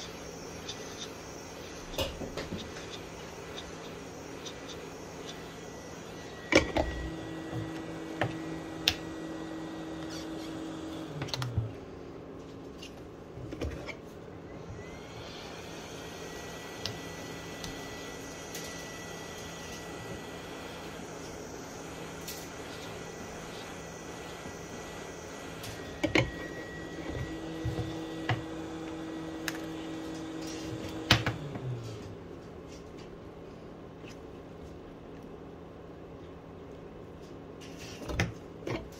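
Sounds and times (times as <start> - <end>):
hot-air blower running: 0.0 - 32.8.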